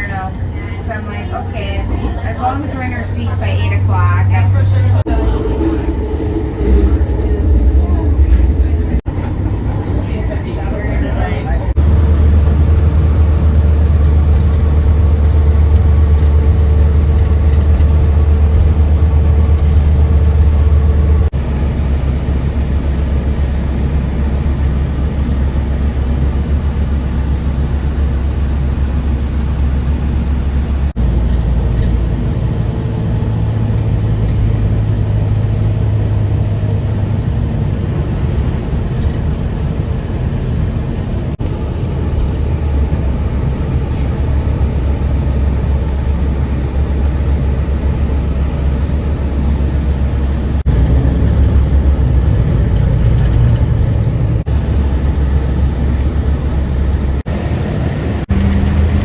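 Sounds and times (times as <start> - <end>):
low vehicle rumble: 0.0 - 59.0.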